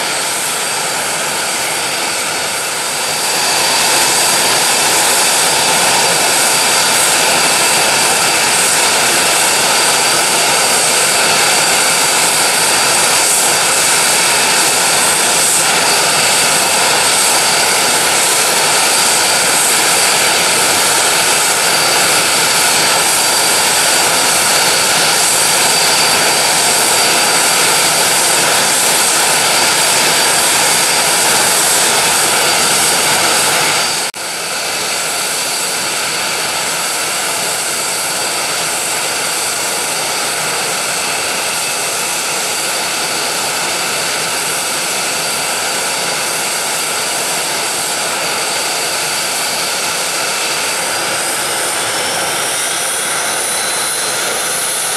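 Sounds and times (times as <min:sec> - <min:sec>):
jet engines running with whine: 0:00.0 - 0:54.9.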